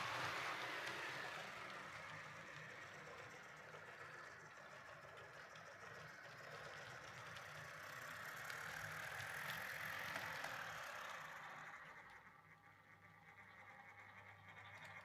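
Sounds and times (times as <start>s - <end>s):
model train motor whirring: 0.0s - 14.6s.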